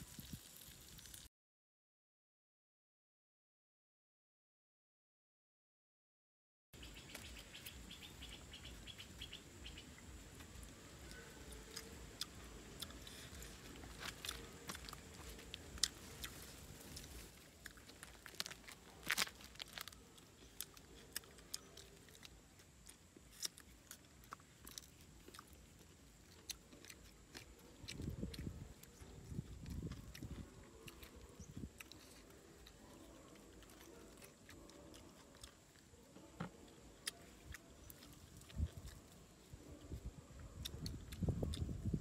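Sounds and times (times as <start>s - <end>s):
crunchy chewing: 6.9s - 42.0s.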